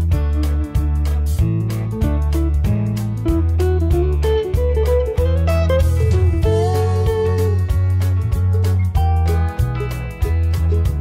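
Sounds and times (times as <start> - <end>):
guitar melody: 0.0 - 11.0
held bass notes: 0.0 - 11.0.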